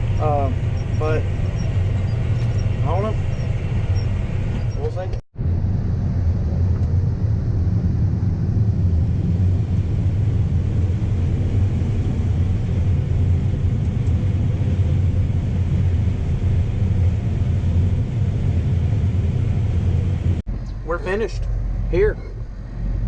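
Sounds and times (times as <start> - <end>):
farm machine diesel engine droning: 0.0 - 23.0.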